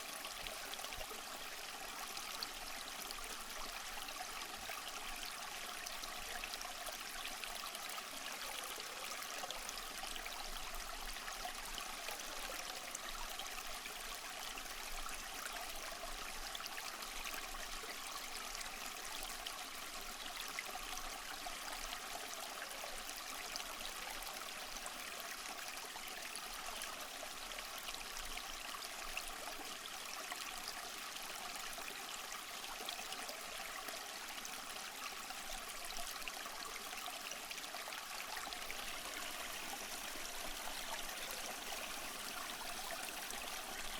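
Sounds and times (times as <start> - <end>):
stream babbling over stones: 0.0 - 43.9.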